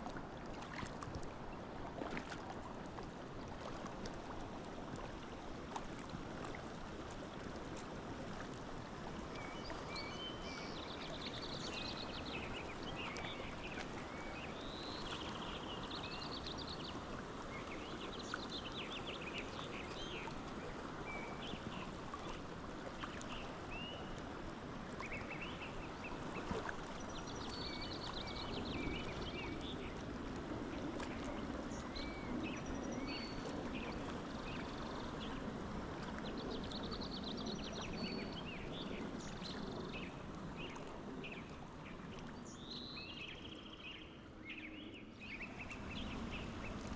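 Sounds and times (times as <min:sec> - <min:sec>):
stream flowing: 0:00.0 - 0:46.9.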